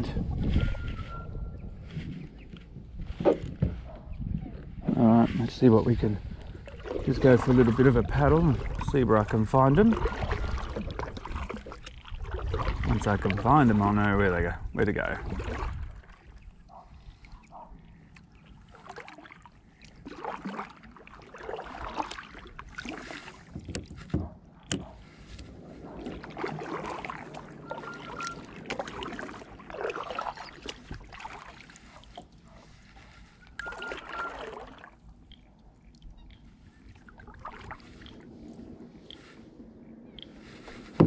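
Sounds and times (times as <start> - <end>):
paddle swishing water: 0.0 - 41.0.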